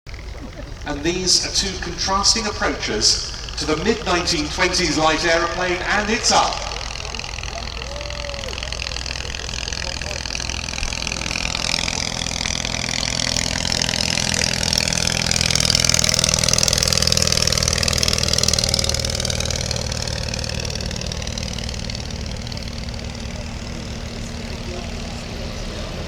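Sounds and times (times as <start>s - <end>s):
light aeroplane engine droning: 0.1s - 26.0s.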